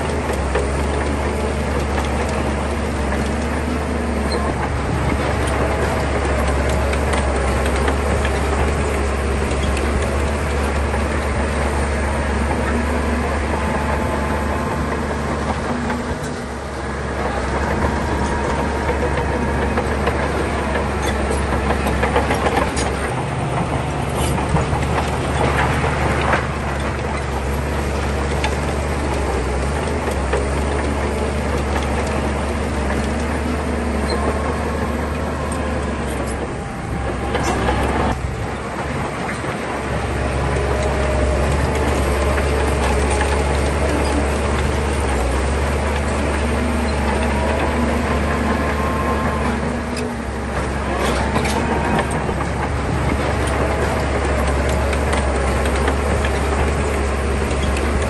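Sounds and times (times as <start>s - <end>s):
clanks and clicks: 0.0s - 58.0s
heavy machinery diesel engine: 0.0s - 58.0s.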